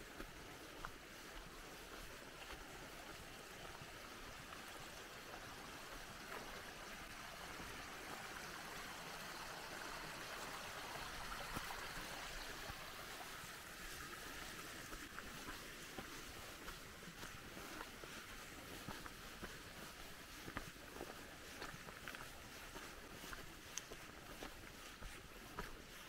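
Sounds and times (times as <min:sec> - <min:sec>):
faint footsteps on leaves: 0:00.0 - 0:08.7, 0:11.0 - 0:26.0
stream trickling over rocks: 0:00.0 - 0:26.0.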